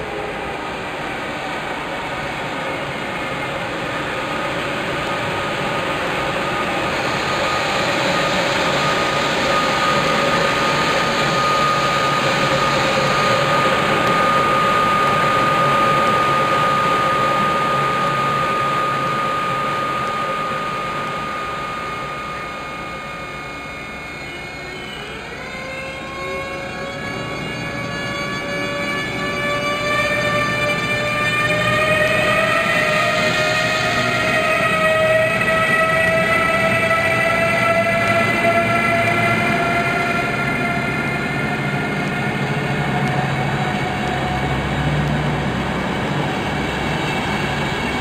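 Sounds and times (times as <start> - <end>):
steady high whine: 0.0 - 48.0.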